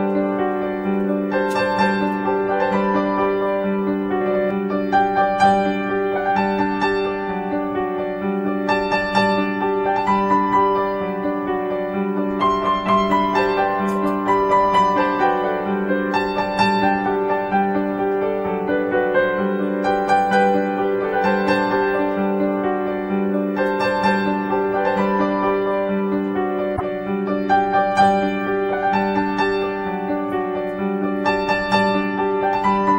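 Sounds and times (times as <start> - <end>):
soft piano music: 0.0 - 32.9.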